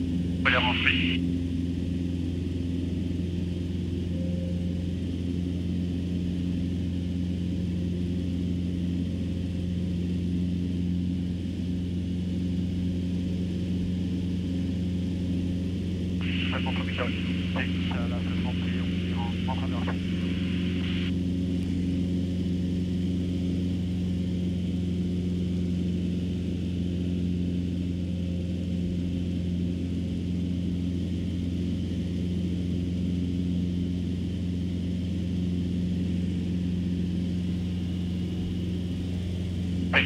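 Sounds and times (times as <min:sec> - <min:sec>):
airplane engine and propeller droning: 0:00.0 - 0:40.0.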